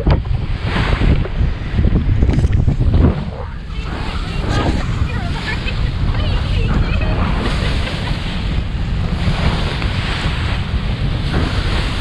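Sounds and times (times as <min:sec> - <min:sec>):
rush of waves: 0:00.0 - 0:12.0
strong wind buffeting microphone: 0:00.0 - 0:12.0.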